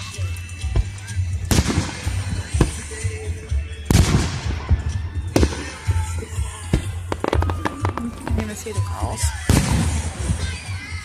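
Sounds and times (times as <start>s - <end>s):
fireworks bangs: 0.7s - 11.0s.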